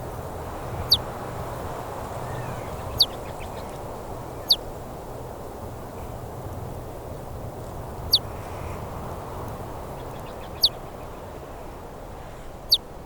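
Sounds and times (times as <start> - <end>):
low rushing brown noise: 0.0 - 13.0.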